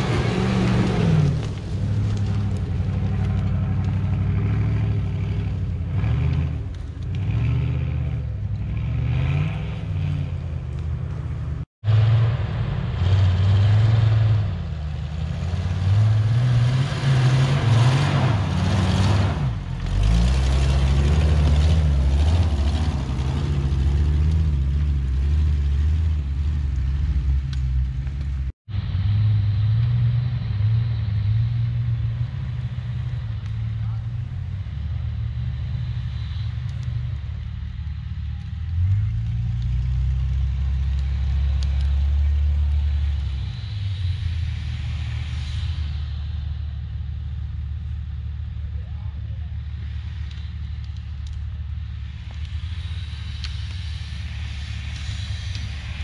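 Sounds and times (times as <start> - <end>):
off-road engines revving: 0.0 - 56.0.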